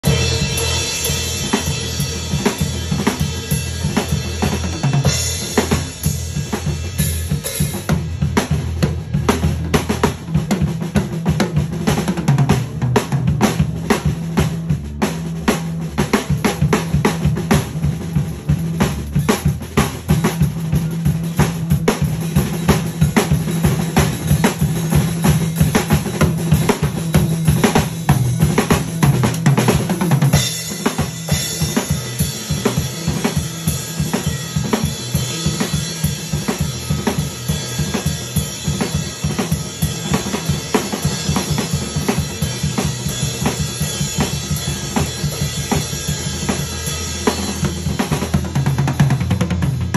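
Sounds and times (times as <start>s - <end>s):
drum kit solo: 0.0s - 49.9s.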